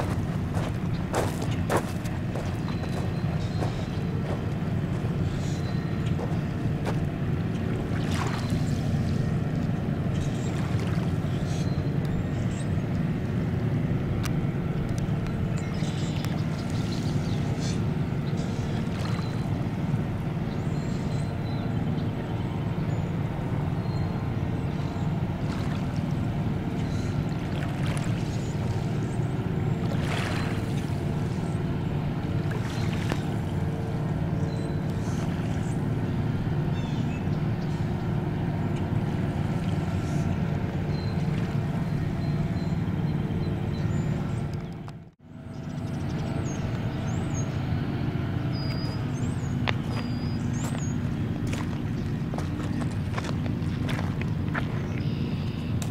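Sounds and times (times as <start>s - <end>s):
distant engine rumble: 0.0s - 55.9s.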